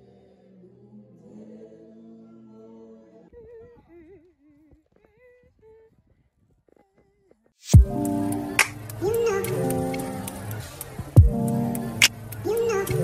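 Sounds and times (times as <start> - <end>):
faint singing: 0.0 - 13.0.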